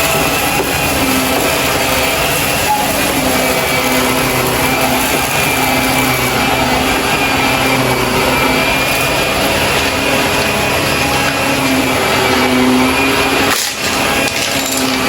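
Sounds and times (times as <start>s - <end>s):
vacuum cleaner motor whining: 0.0s - 15.0s.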